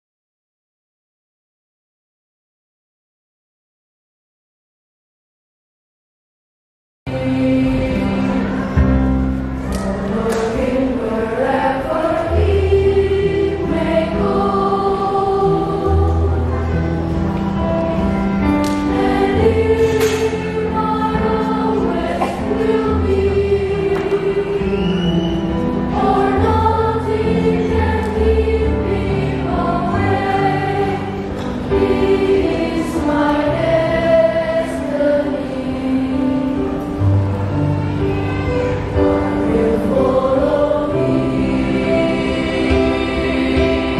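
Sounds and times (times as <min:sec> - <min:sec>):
children's choir singing: 0:07.1 - 0:43.9
sustained low accompaniment notes: 0:07.1 - 0:43.9.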